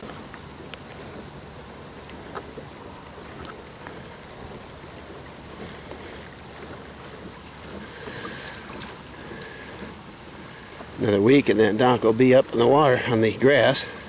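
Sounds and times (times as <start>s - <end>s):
boat motor running: 0.0s - 14.0s
water noise: 0.0s - 14.0s.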